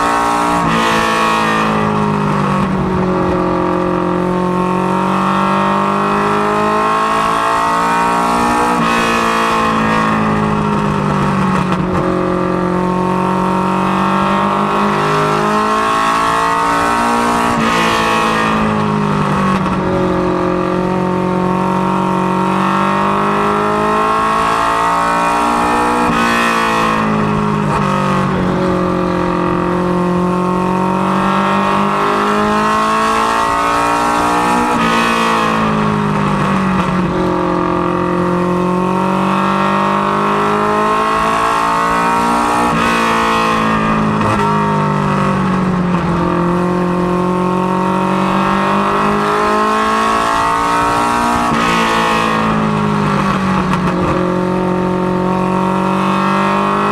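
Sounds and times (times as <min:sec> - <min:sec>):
race car engine running hard: 0:00.0 - 0:56.9
road and wind noise: 0:00.0 - 0:56.9.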